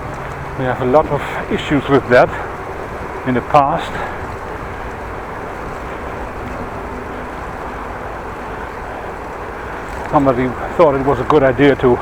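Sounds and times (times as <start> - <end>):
bicycle riding noise: 0.0 - 12.0
wind buffeting microphone: 0.0 - 12.0.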